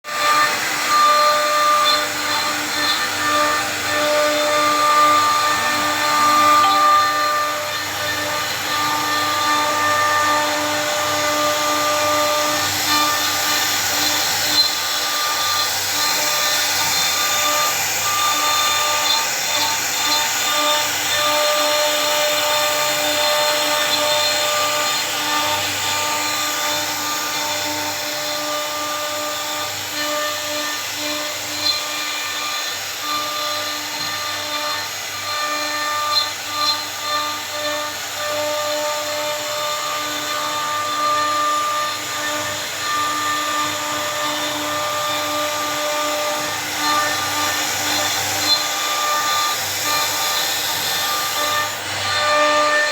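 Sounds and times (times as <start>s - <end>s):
woodworking machine motor whine: 0.0s - 52.9s.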